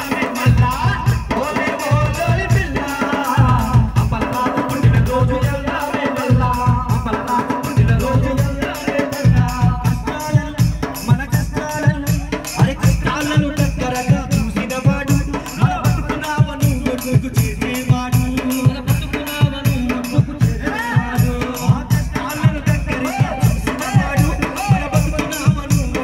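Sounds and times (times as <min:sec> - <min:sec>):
large drum beating: 0:00.0 - 0:26.0
person singing into microphone: 0:00.0 - 0:26.0
rattling percussion: 0:00.0 - 0:26.0.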